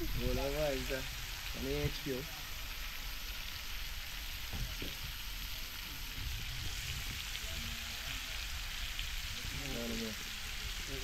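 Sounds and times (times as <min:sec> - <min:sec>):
crayfish sizzling in a pan: 0:00.0 - 0:11.0.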